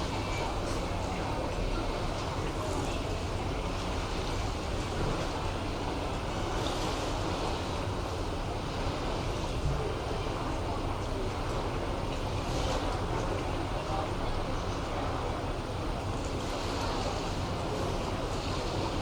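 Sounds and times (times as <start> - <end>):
sea surf: 0.0 - 19.0
wind: 0.0 - 19.0.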